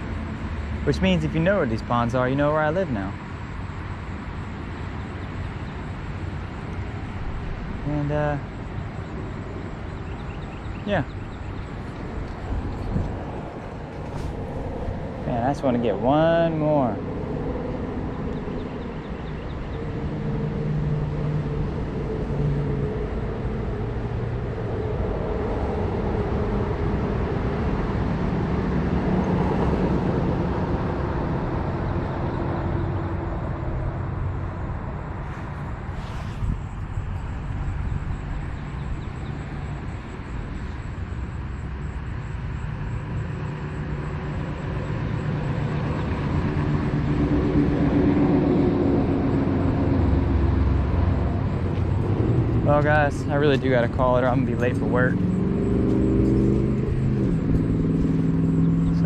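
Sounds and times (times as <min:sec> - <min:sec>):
passing vehicle engines rumbling: 0:00.0 - 0:59.0.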